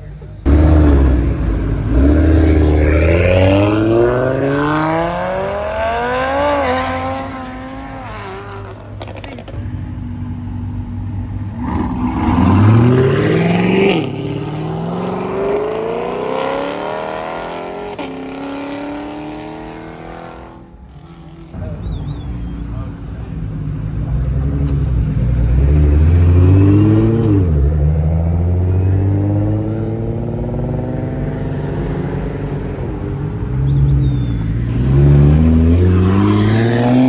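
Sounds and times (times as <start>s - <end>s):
cars accelerating hard past: 0.4s - 9.5s, 11.3s - 21.6s, 23.8s - 37.0s.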